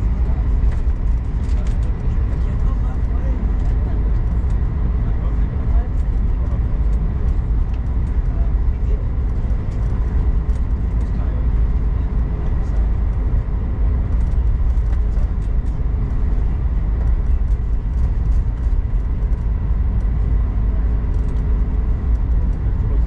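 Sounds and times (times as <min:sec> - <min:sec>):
jet engines idling: 0:00.0 - 0:23.0
wheels rolling on taxiway: 0:00.0 - 0:23.0.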